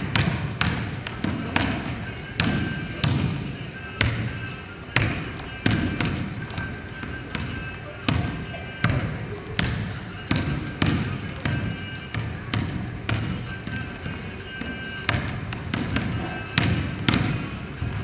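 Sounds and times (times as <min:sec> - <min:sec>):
basketball bouncing on wooden floor: 0:00.0 - 0:04.4, 0:05.0 - 0:18.0
background music: 0:00.0 - 0:18.0.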